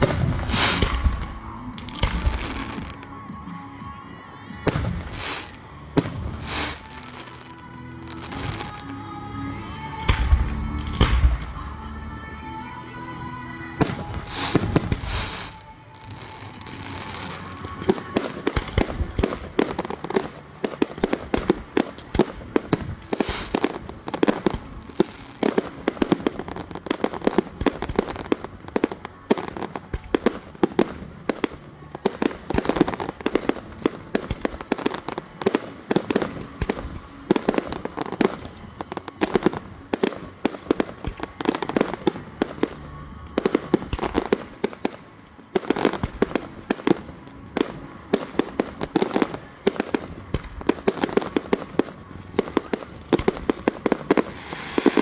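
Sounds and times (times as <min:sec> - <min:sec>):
fireworks bursting with bangs and crackles: 0:00.0 - 0:09.0, 0:09.7 - 0:11.8, 0:13.8 - 0:55.0.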